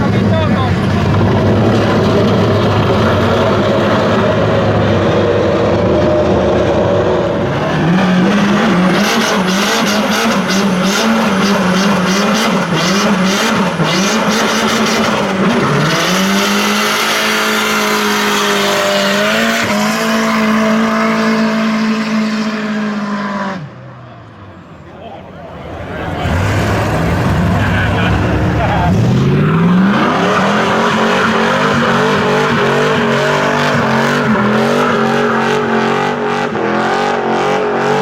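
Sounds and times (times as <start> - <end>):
car engine at high revs: 0.0 - 38.0.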